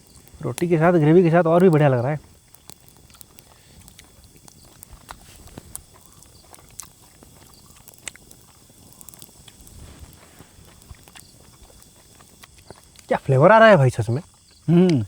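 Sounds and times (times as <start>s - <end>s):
people eating and chewing: 0.0s - 15.0s
sharp ticks: 0.0s - 15.0s.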